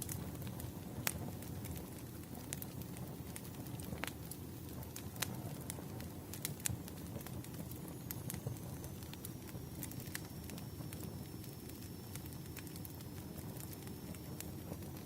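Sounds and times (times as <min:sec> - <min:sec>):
logs crackling and popping: 0:00.0 - 0:15.0
low rush of flames: 0:00.0 - 0:15.0.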